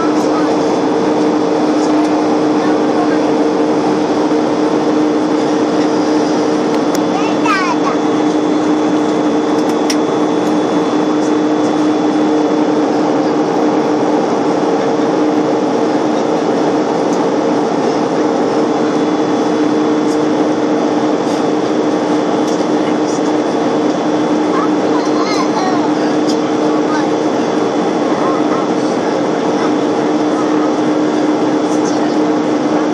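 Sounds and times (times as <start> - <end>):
airliner cabin engine rush: 0.0 - 32.9
constant low hums: 0.0 - 32.9.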